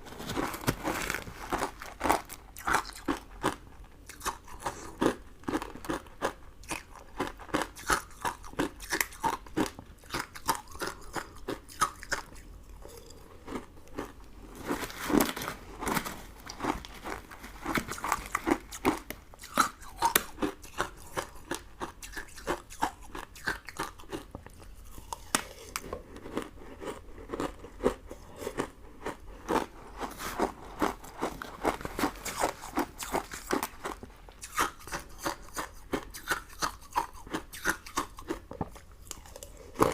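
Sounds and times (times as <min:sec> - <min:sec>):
person crunching hard candy: 0:00.1 - 0:39.9.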